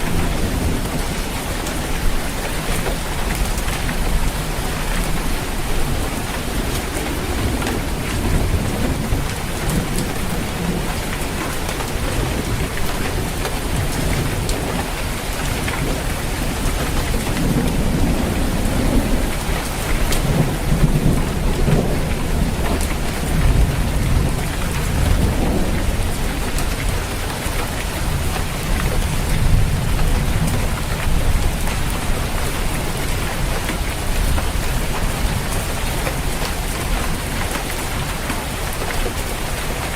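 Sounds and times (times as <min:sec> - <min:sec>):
rolling thunder: 0:00.0 - 0:37.4
rain falling on a roof: 0:00.0 - 0:39.9.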